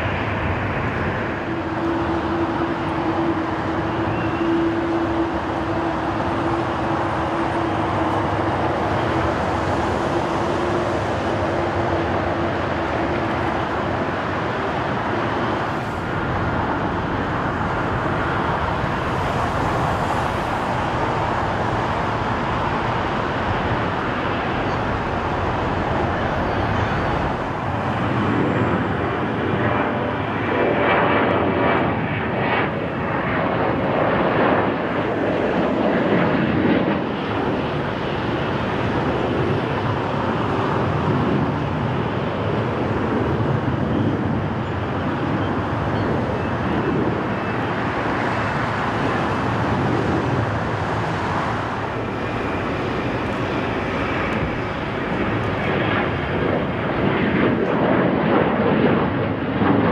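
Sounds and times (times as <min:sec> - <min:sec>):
faint engine whine: 0:00.0 - 0:59.9
jet engines roaring: 0:00.0 - 0:59.9.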